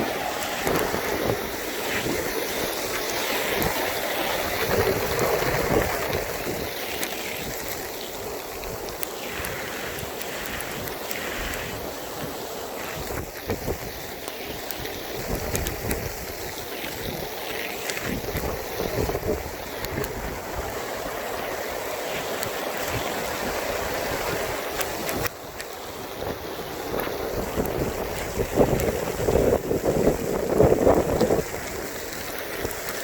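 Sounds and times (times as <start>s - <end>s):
wind buffeting microphone: 0.0s - 25.3s, 25.9s - 32.9s.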